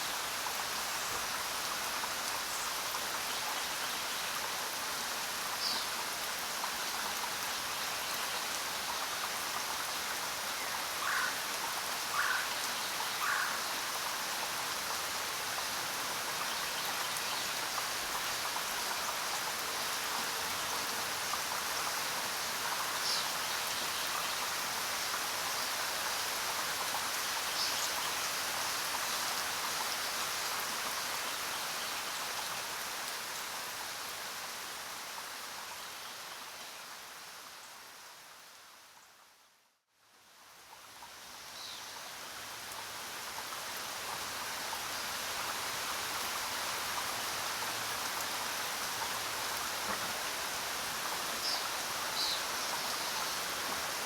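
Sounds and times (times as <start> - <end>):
rain hissing and pattering: 0.0 - 39.1, 40.0 - 54.0.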